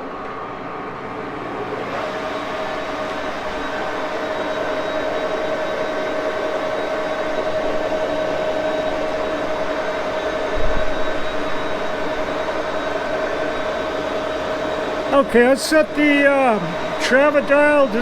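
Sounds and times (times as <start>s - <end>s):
lathe running: 0.1s - 18.0s.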